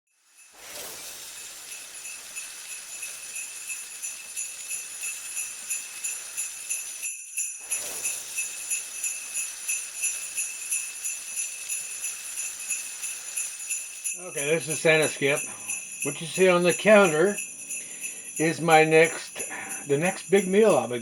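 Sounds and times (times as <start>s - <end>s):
sleigh bells jingling: 0.1s - 21.0s.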